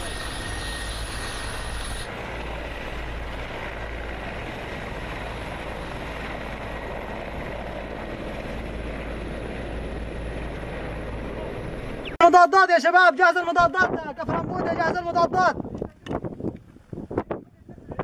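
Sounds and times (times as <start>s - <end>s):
helicopter flying low: 0.0s - 18.0s.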